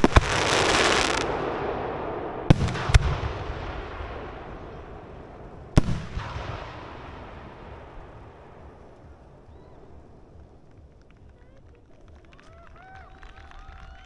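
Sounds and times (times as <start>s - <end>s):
firework shells bursting: 0.0s - 12.5s.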